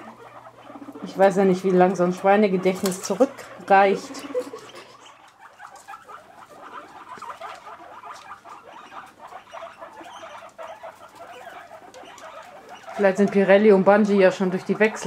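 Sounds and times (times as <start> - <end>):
guinea pigs squeaking: 0.0 - 15.0.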